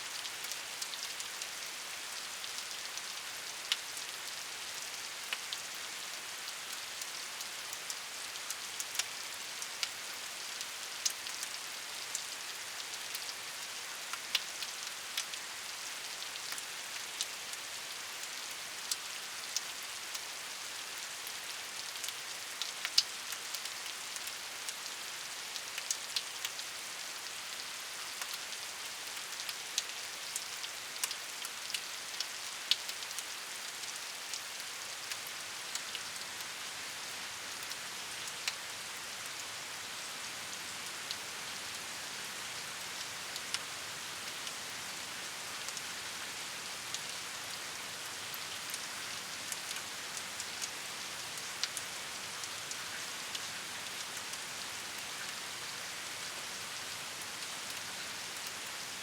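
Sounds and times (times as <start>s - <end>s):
steady rain hiss: 0.0s - 59.0s
raindrops pattering on a surface: 0.1s - 59.0s.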